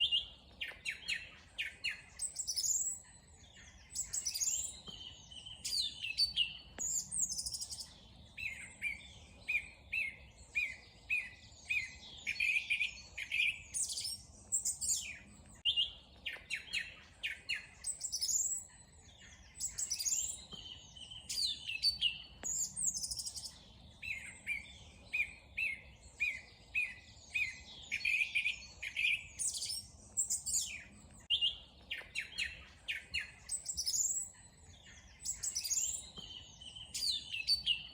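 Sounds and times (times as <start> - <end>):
songbirds singing and chirping: 0.0 - 37.9.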